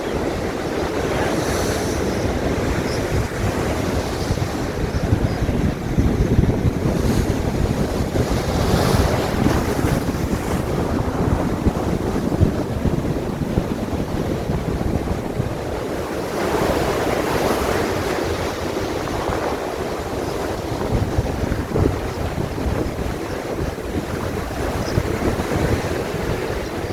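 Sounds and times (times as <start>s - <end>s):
sea waves breaking: 0.0s - 26.9s
wind buffeting microphone: 0.0s - 26.9s.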